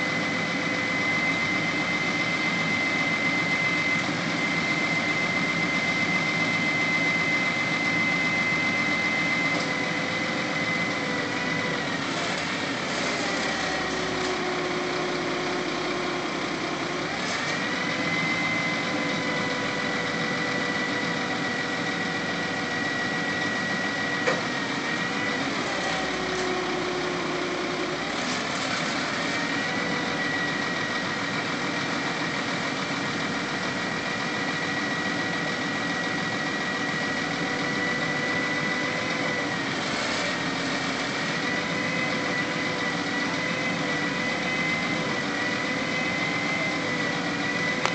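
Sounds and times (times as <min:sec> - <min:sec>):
hydraulic whine: 0:00.0 - 0:47.9
truck engine running: 0:00.0 - 0:47.9.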